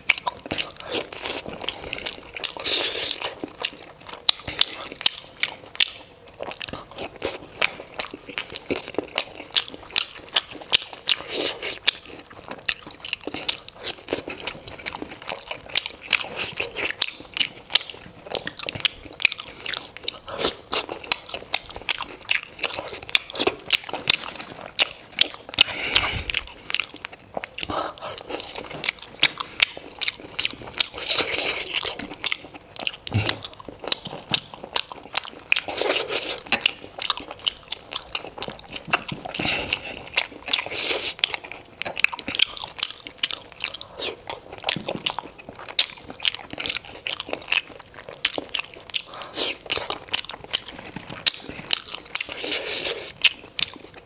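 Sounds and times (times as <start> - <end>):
chewing and biting dumplings: 0.0 - 54.0.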